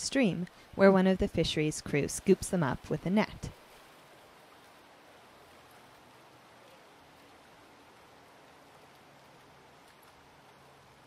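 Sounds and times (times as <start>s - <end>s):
faint creek water rushing: 0.0s - 11.0s.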